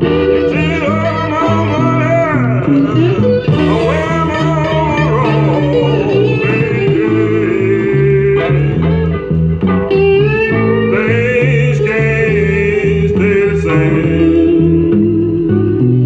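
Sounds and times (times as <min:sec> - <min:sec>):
guitar-led song from a record: 0:00.0 - 0:16.0.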